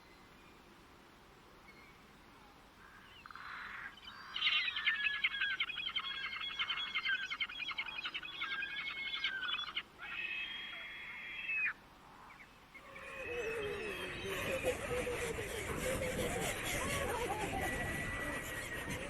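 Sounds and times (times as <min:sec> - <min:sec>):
songbird singing: 0:01.6 - 0:19.0.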